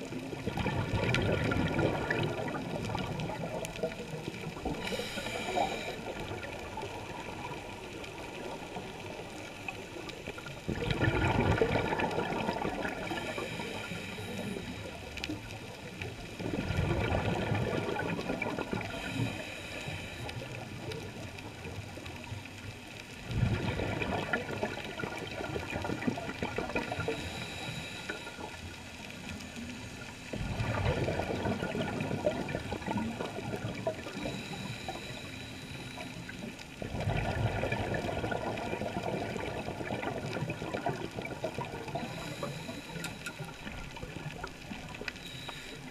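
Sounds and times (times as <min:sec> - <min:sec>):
regulator bubbling underwater: 0:00.0 - 0:45.9
steady underwater hiss: 0:00.0 - 0:45.9.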